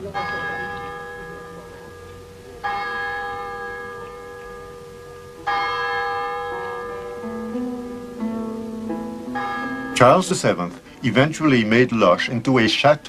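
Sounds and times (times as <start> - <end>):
church bell tolling: 0.0 - 12.4
plucked-string music: 0.0 - 13.0.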